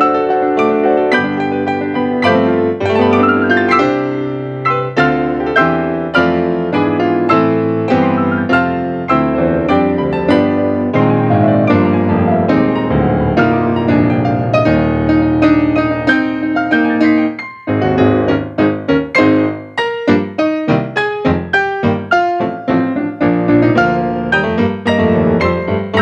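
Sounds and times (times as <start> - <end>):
acoustic piano playing: 0.0 - 26.0.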